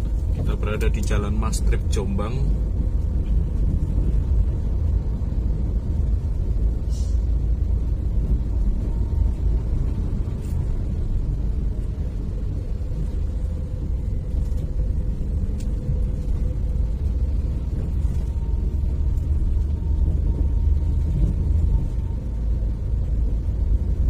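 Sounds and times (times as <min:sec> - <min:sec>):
car interior engine and road noise: 0:00.0 - 0:24.0.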